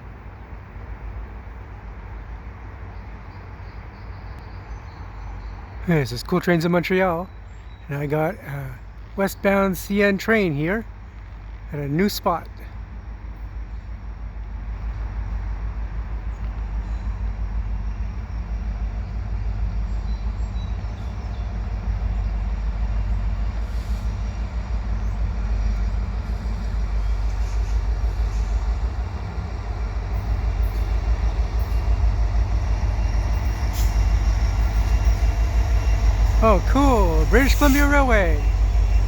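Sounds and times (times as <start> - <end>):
diesel locomotive engine rumble: 0.0 - 39.0.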